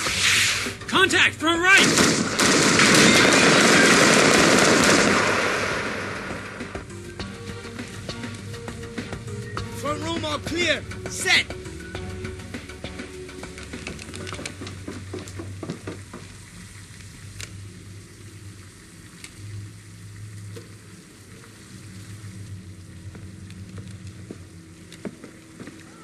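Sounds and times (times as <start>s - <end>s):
crackling hiss: 0.0s - 0.9s, 1.8s - 9.6s, 11.6s - 26.0s
low steady hum: 1.9s - 26.0s.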